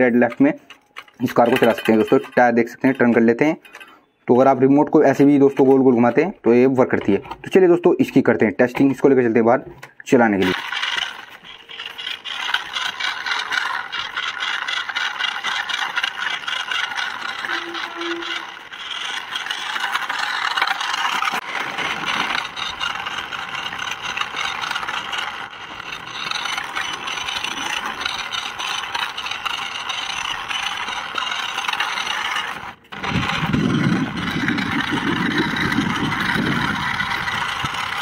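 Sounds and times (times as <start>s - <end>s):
toy car electric motor whirring: 0.0s - 7.6s, 10.3s - 38.0s
wheels rattling on gritty dirt: 0.0s - 9.5s, 10.3s - 38.0s.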